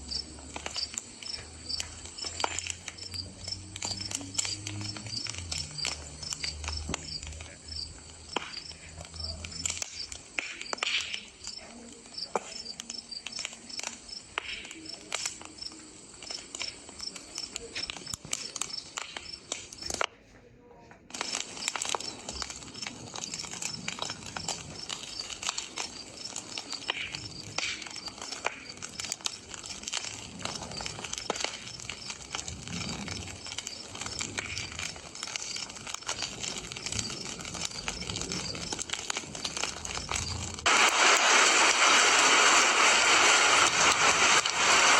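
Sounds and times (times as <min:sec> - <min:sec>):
crickets chirping: 0:00.0 - 0:19.9, 0:21.2 - 0:40.6
campfire crackling and popping: 0:00.0 - 0:44.9.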